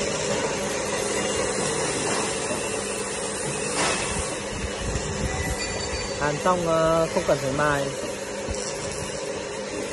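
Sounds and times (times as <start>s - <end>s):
laser welder hissing: 0.0s - 5.6s, 6.2s - 9.9s.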